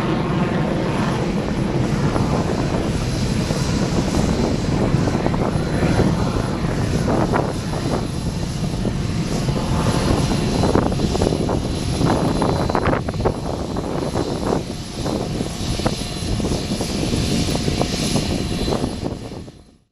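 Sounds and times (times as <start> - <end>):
jet engine roaring with crackles: 0.0 - 19.9.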